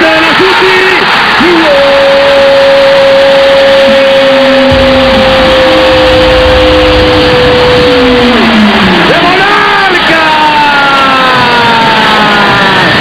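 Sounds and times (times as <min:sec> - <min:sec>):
commentator shouting: 0:00.0 - 0:12.7
stadium crowd roaring: 0:00.0 - 0:13.0.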